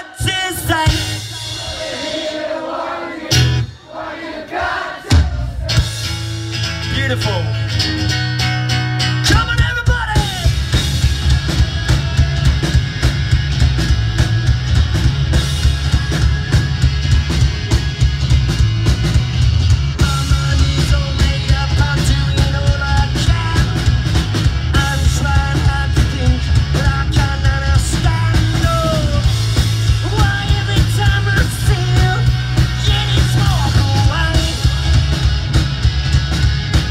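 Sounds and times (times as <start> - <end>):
guitars and bass: 0.0 - 2.2, 3.2 - 3.8, 5.0 - 36.9
drum kit pounding: 0.0 - 3.9, 4.5 - 36.9.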